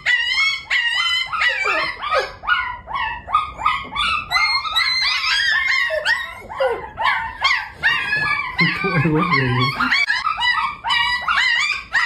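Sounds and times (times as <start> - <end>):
dog whining: 0.0 - 12.0.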